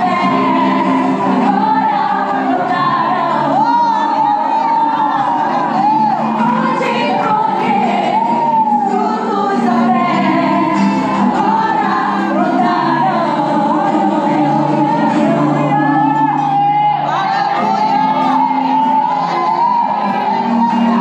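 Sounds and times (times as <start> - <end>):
gospel song with singing: 0.0 - 21.0.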